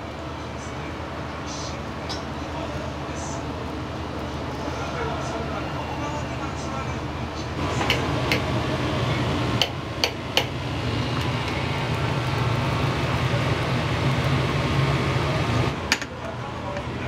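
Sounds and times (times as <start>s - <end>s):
gas burners and extractor roar: 0.0s - 17.0s.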